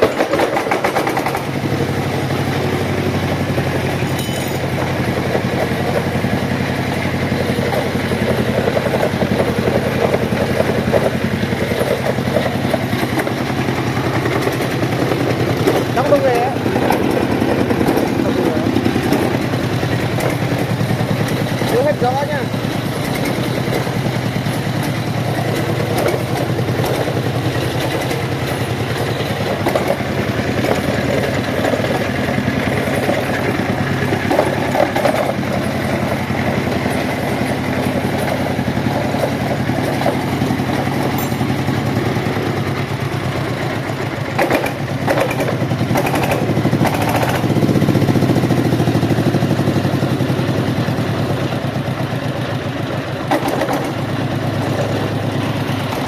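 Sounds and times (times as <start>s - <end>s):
sharp engine knocks: 0.0s - 43.1s, 44.3s - 49.4s, 53.2s - 56.0s
diesel engine running: 0.0s - 56.0s.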